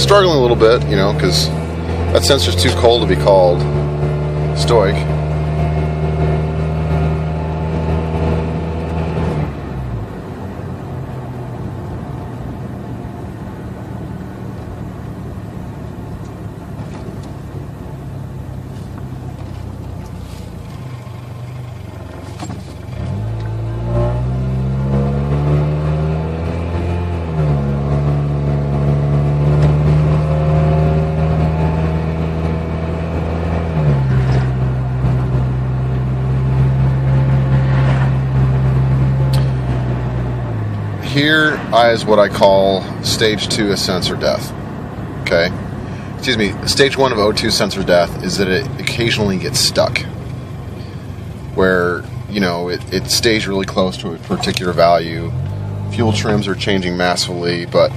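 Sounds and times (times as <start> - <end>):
car engine from inside cabin: 0.0 - 57.9.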